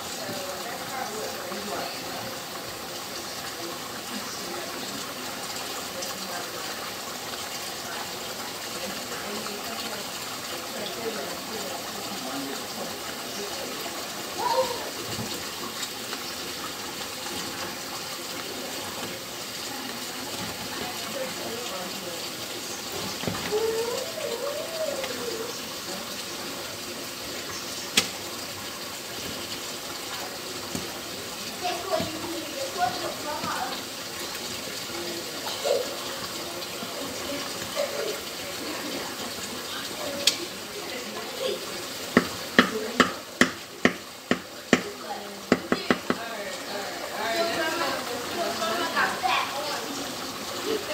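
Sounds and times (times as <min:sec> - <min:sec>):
pot boiling and bubbling: 0:00.0 - 0:50.9.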